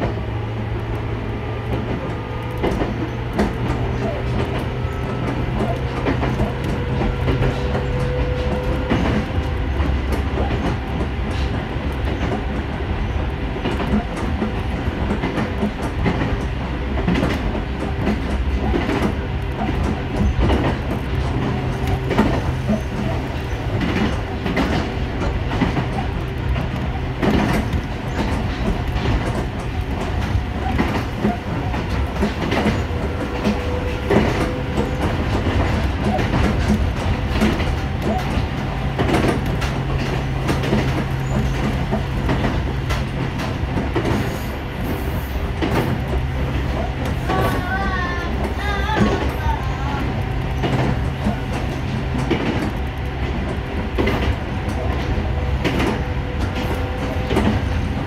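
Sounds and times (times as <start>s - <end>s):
train rumble and motor hum: 0.0s - 58.0s
wheels clicking over rail joints: 0.0s - 58.0s.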